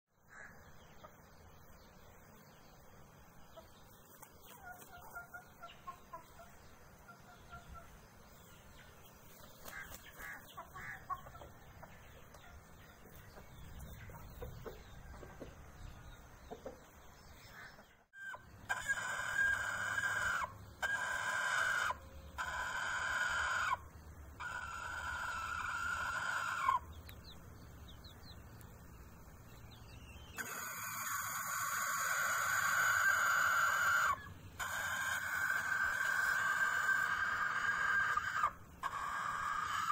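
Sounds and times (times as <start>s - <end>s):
chickens clucking softly: 3.3s - 39.9s.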